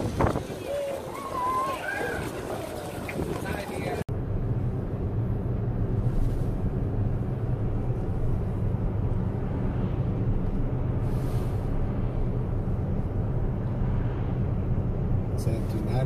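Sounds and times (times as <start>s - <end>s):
road and tyre rumble in car: 0.0s - 16.0s.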